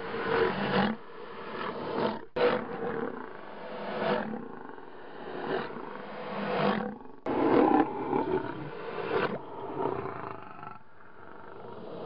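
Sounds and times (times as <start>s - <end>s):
distorted lion roars: 0.1s - 12.0s.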